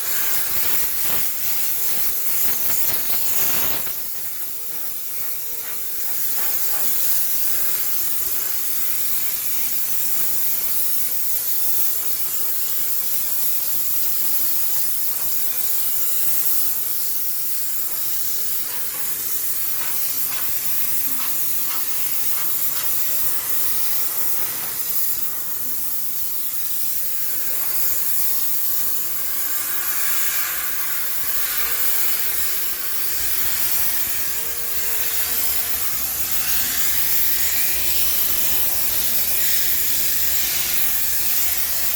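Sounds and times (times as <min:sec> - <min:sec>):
steam cleaner hissing: 0:00.0 - 0:41.9.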